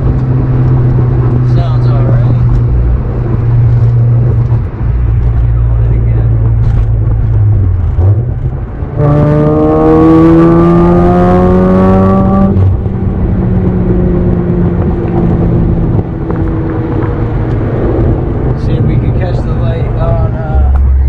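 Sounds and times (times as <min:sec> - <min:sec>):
rotary engine accelerating: 0:00.0 - 0:21.0.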